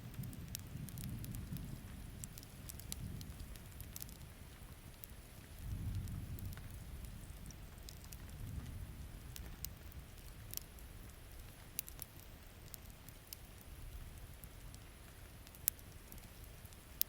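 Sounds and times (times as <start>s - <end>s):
campfire crackling and popping: 0.0s - 17.0s
steady rain: 0.0s - 17.0s.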